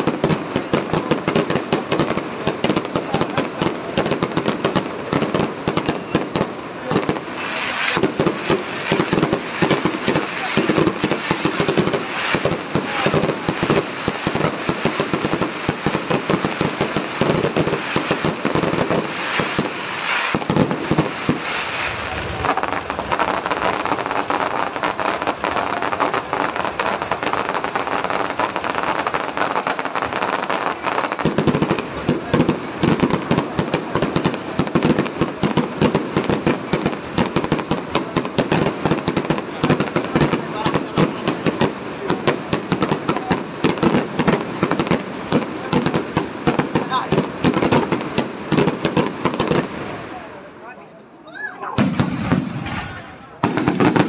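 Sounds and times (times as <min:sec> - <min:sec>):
fireworks bangs: 0:00.0 - 0:50.8, 0:51.5 - 0:54.0
low fireworks booms: 0:00.0 - 0:50.8, 0:51.7 - 0:54.0
fireworks crackling: 0:00.0 - 0:54.0.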